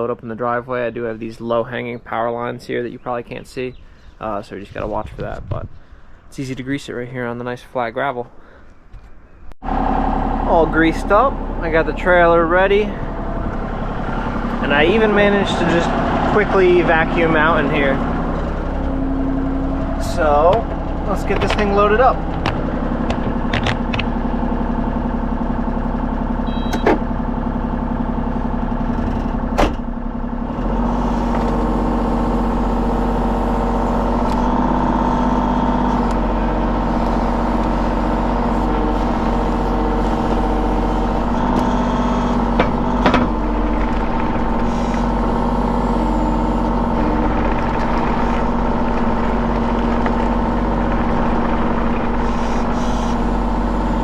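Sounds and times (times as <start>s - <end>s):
excavator diesel engine running: 9.6s - 54.0s.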